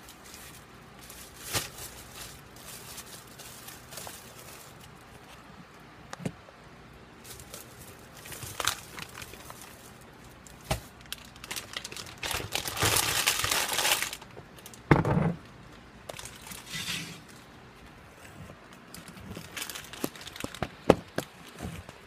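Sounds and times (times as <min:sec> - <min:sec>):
rustling and crinkling: 0:00.0 - 0:06.4, 0:07.1 - 0:22.0.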